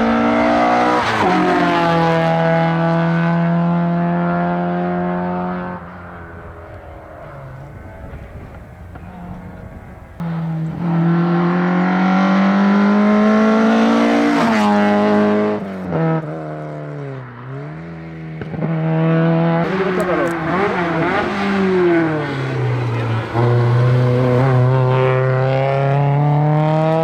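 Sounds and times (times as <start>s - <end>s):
race car engine at full throttle: 0.0s - 27.0s.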